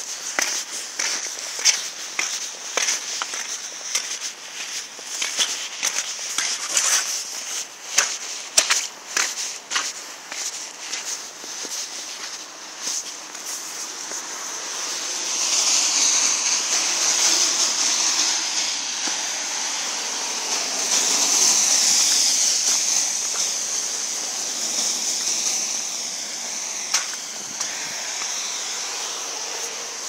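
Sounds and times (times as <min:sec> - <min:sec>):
tyres hissing on wet road: 0:00.0 - 0:30.0.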